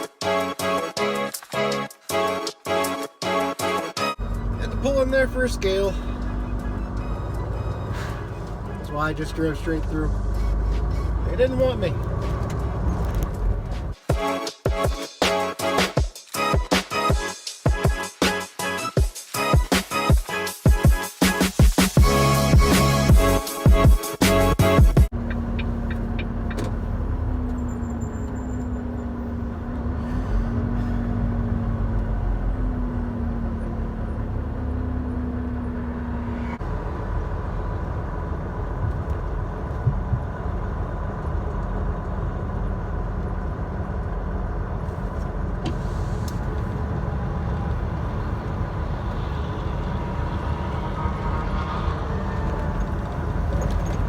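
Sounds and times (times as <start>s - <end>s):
truck engine and road rumble: 0.0s - 54.0s.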